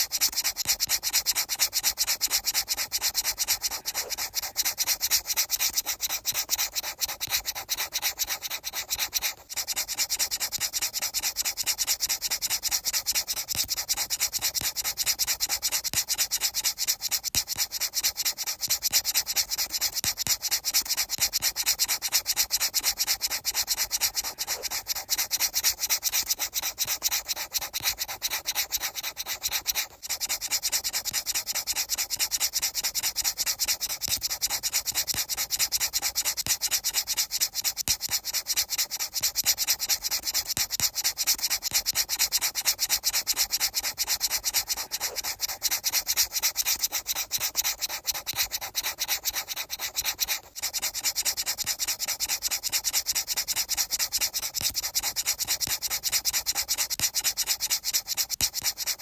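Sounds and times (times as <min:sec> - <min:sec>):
rapid rubbing strokes: 0:00.0 - 0:59.0.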